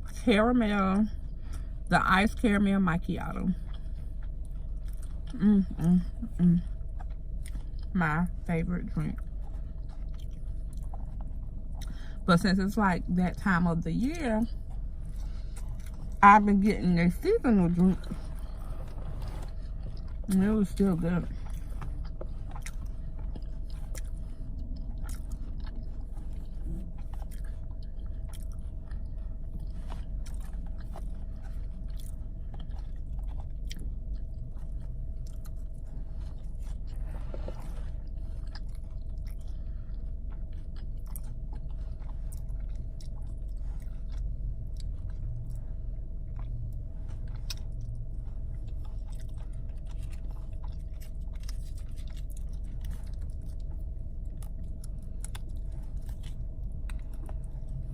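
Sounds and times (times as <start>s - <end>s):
steady low hum: 0.0s - 57.9s
person chewing food: 3.5s - 7.9s, 9.1s - 12.2s, 14.5s - 16.2s, 17.7s - 57.9s.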